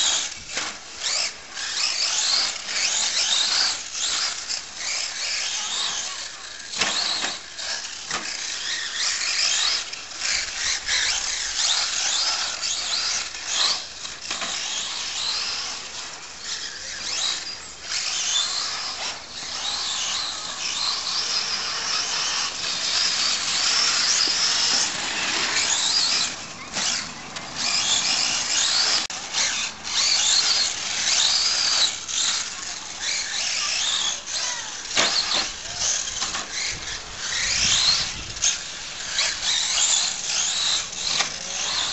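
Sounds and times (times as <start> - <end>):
toy truck electric motor whining: 0.0 - 41.9.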